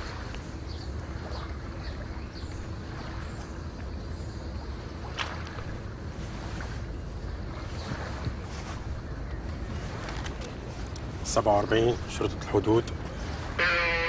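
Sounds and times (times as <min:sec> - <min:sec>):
steady low background noise: 0:00.0 - 0:14.0
wind rumbling on microphone: 0:00.0 - 0:14.0.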